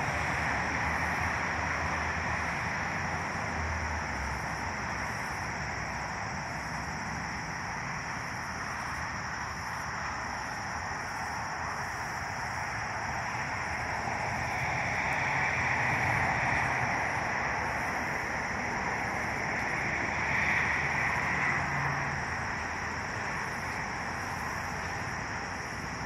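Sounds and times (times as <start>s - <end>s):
train rumble and hiss: 0.0s - 26.0s.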